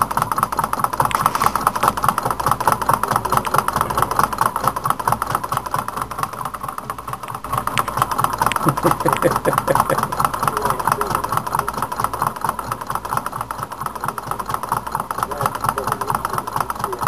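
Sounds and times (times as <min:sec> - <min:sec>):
small engine ticking: 0:00.0 - 0:17.0.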